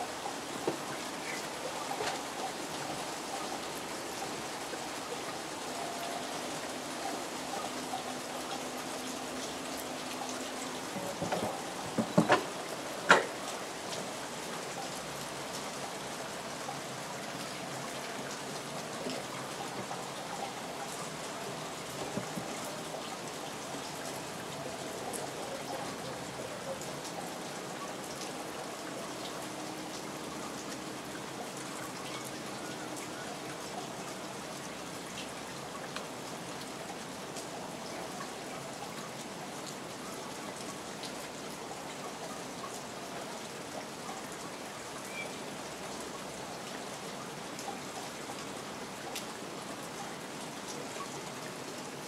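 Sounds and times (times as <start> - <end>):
rain on foliage: 0.0 - 52.0.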